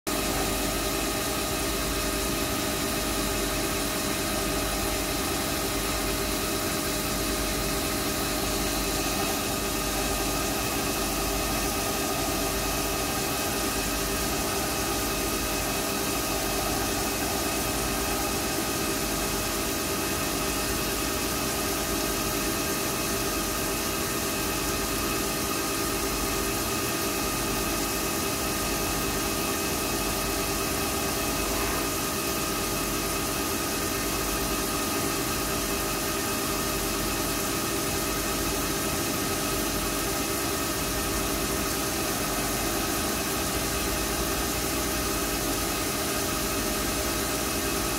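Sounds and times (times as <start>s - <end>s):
coolant hissing: 0.1s - 47.9s
metal lathe humming: 0.1s - 47.9s.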